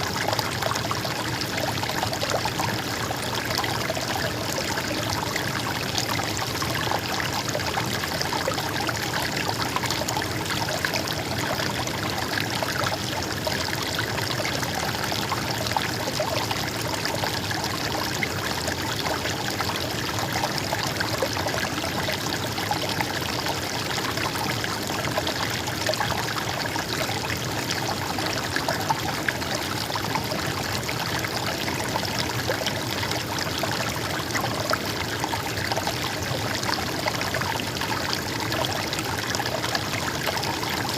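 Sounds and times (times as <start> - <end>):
stream water trickling: 0.0 - 40.9.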